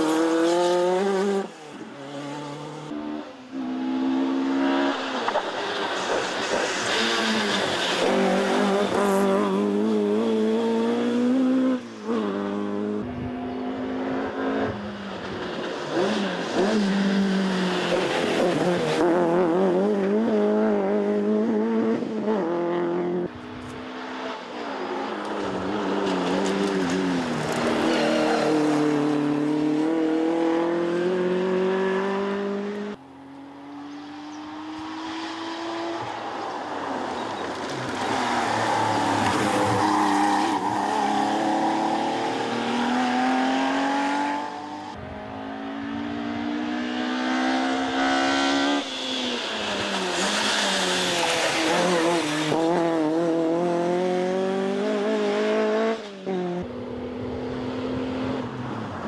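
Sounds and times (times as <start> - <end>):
rally cars passing at full throttle: 0.0 - 59.0.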